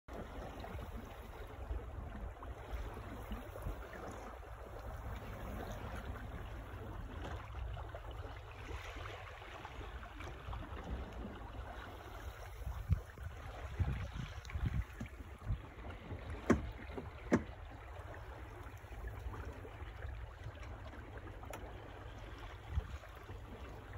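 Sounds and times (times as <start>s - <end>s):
water washing along a hull: 0.1s - 23.9s
wind rumble on microphone: 0.1s - 23.9s.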